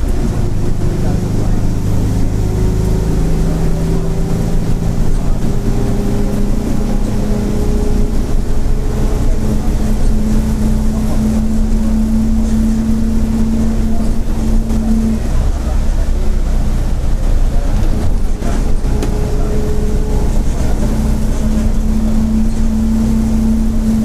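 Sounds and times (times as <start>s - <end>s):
bus engine drone: 0.0s - 24.0s
differential humming tone: 0.0s - 24.0s.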